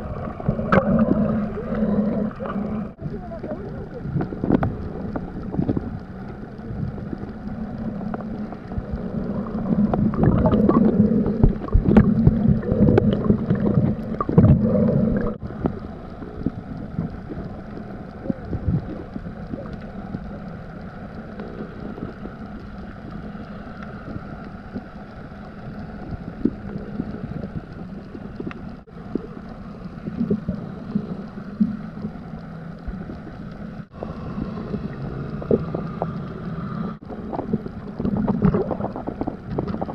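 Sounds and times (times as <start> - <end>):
low steady hum: 0.0 - 39.9
sea water sloshing and splashing: 0.0 - 39.9.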